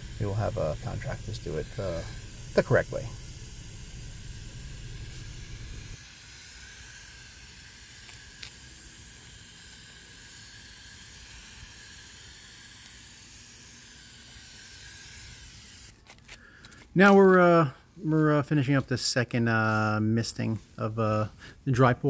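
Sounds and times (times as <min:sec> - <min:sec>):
hose mist spray hissing: 0:00.0 - 0:16.0, 0:19.6 - 0:21.9.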